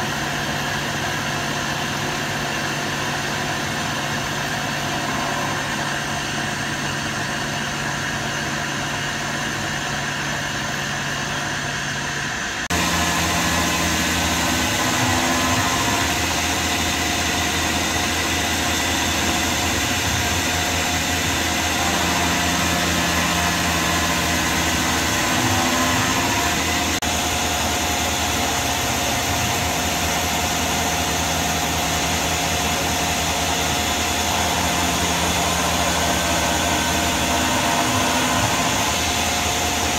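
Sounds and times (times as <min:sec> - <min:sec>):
milling machine hum and whine: 0:00.0 - 0:39.9.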